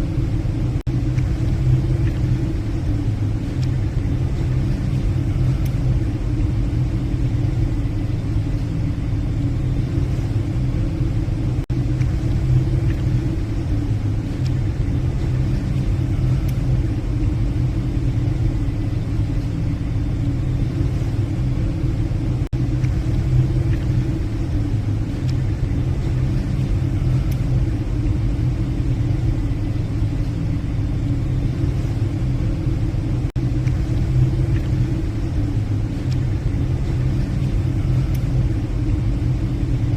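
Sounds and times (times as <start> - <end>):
ship engines droning: 0.0 - 39.9.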